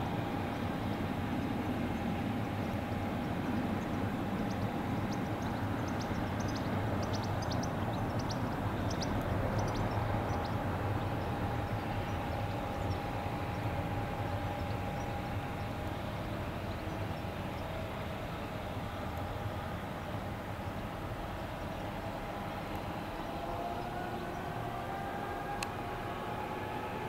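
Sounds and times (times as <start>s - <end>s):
jet engines rumbling and whining: 0.0s - 27.0s.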